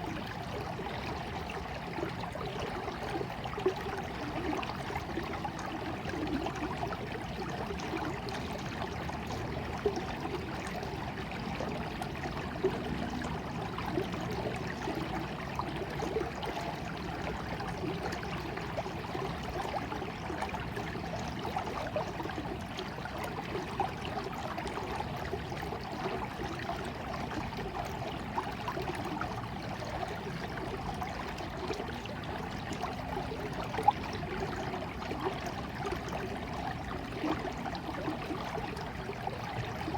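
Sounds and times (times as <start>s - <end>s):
stream trickling over stones: 0.0s - 39.9s
water splashing and gurgling: 0.0s - 39.9s.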